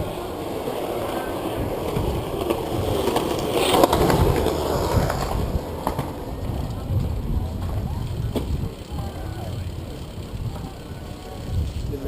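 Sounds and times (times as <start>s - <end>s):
bicycle tyres rolling over pavement: 0.0s - 12.0s
wind rumble on microphone: 1.5s - 12.0s.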